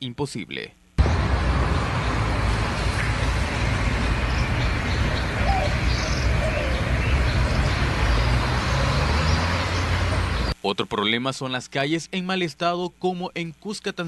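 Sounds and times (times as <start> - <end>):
low street rumble and hiss: 0.0 - 14.0.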